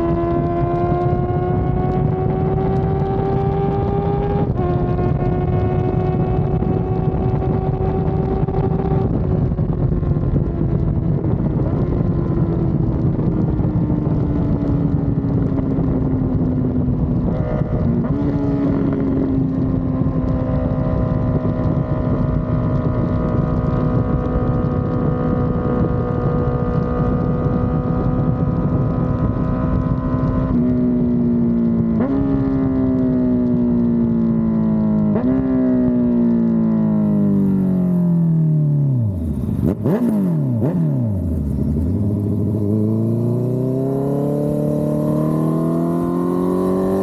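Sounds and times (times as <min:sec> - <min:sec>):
motorcycle engine exhaust: 0:00.0 - 0:47.0
wind on microphone: 0:00.0 - 0:47.0.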